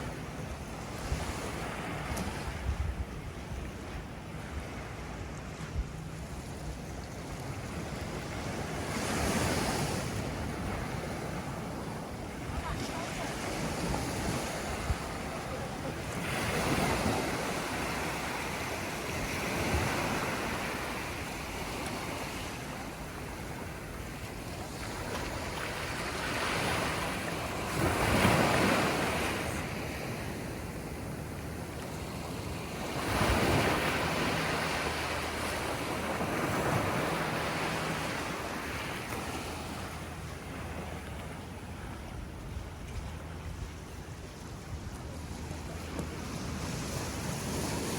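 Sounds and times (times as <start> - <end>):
wind buffeting microphone: 0.0 - 47.9
ocean surf breaking: 6.3 - 47.9.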